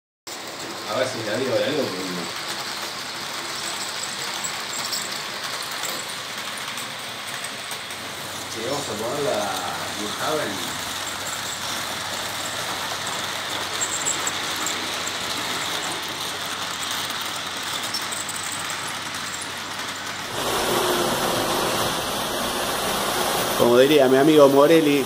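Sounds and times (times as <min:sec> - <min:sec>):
model trains whirring on track: 0:00.3 - 0:25.0.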